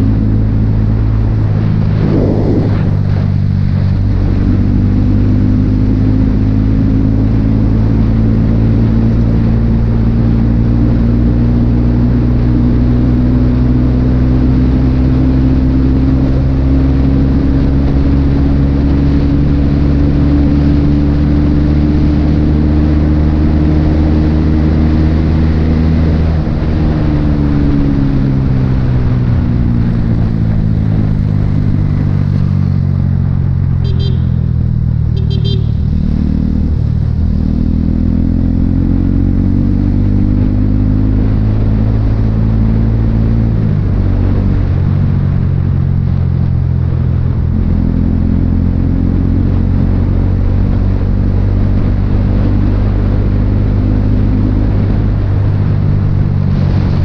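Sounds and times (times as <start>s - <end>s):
motorcycle engine cruising: 0.0s - 57.0s
road and wind noise: 0.0s - 57.0s.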